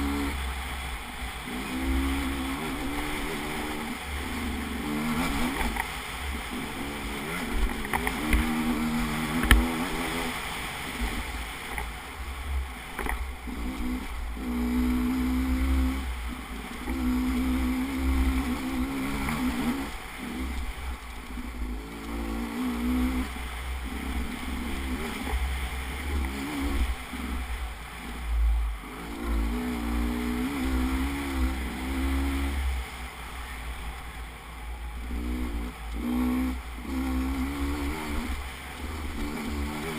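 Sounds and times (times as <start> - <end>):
motorcycle engine revving: 0.0 - 11.8, 13.0 - 33.5, 35.0 - 39.9
low uneven rumble: 0.0 - 39.9.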